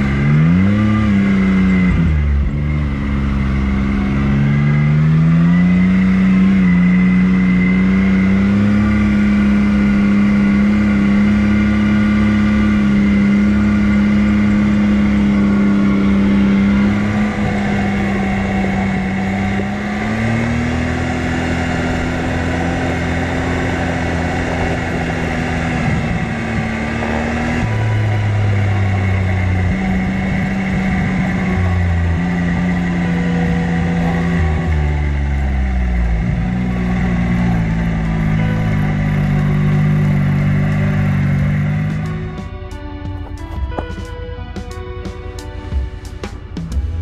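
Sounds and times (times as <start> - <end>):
off-road vehicle engine running: 0.0 - 47.0.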